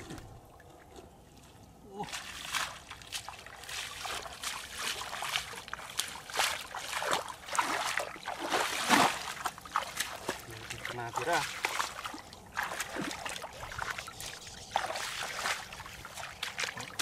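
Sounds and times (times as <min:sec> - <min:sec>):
bare feet splashing through water: 0:00.0 - 0:17.0.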